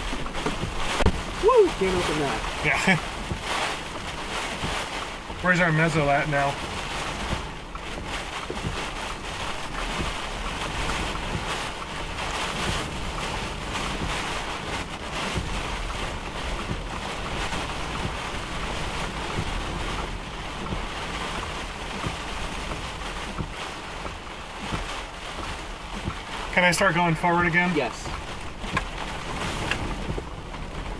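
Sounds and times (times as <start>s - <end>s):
rain ticking on vehicle: 0.0s - 30.9s
storm wind: 0.0s - 30.9s.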